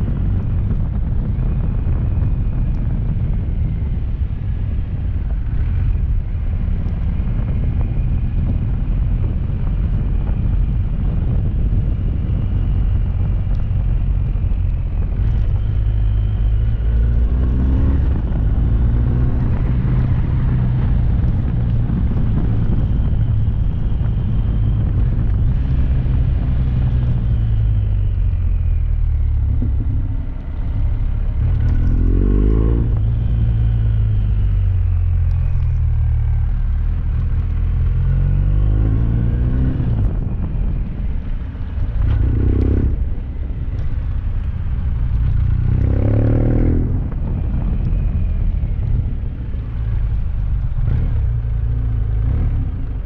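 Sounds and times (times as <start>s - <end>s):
motorcycle engine rumbling: 0.0s - 53.0s.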